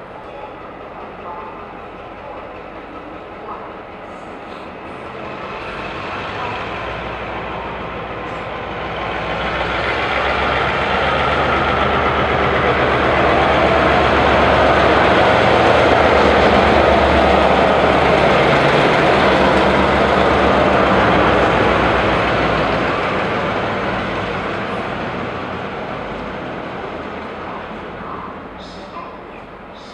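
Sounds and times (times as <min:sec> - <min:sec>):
diesel locomotive passing: 0:00.0 - 0:29.9.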